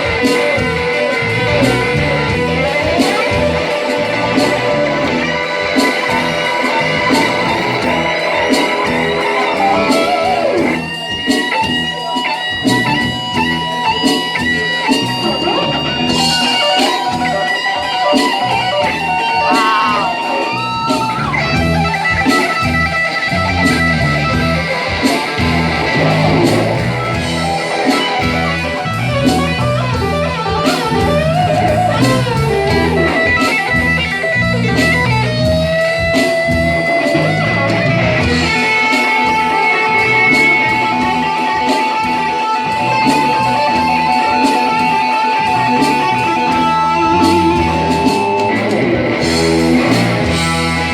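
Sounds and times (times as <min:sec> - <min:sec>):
electric guitar solo: 0:00.0 - 0:50.9
rock blues band playing: 0:00.0 - 0:50.9.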